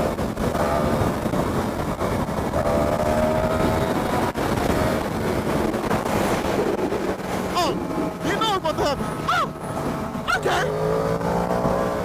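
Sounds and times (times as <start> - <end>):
motorcycle engine rumble: 0.0 - 12.0
wind and road noise: 0.0 - 12.0.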